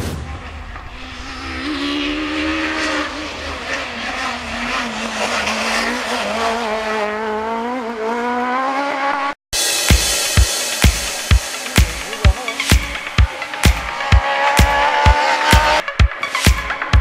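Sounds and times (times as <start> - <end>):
racing car engine revving high: 0.0 - 16.9.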